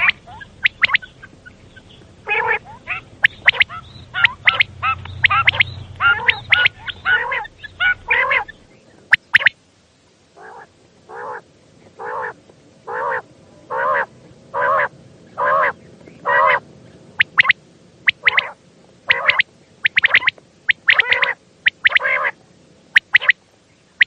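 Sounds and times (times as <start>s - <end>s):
quails calling: 0.0s - 9.6s, 10.4s - 23.4s.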